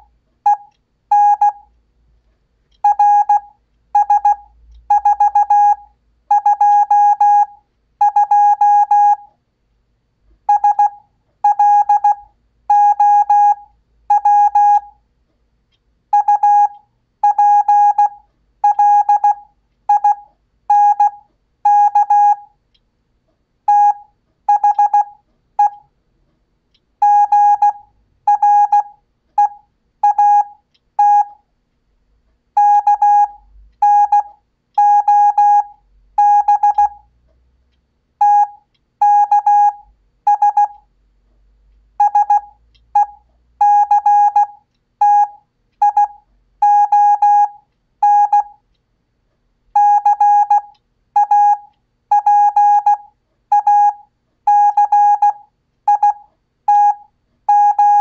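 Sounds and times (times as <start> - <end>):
morse code beeps: 0.0 - 1.7, 2.8 - 9.3, 10.5 - 15.0, 16.1 - 22.6, 23.7 - 25.9, 27.0 - 31.4, 32.6 - 37.1, 38.2 - 40.9, 42.0 - 48.6, 49.8 - 58.0.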